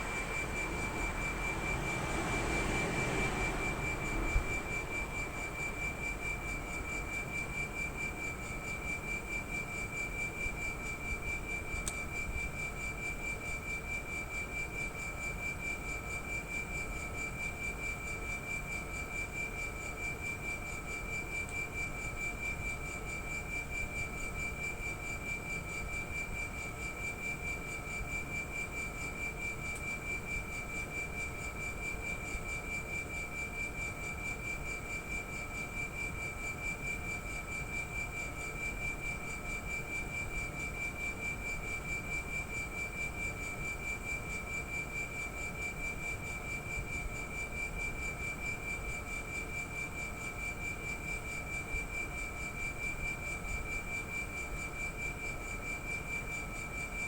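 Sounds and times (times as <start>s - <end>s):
air conditioner compressor whining: 0.0s - 57.0s.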